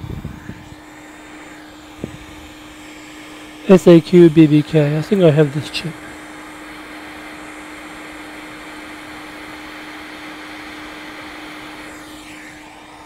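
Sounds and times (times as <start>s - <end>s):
hot air blower rushing: 0.0s - 13.0s.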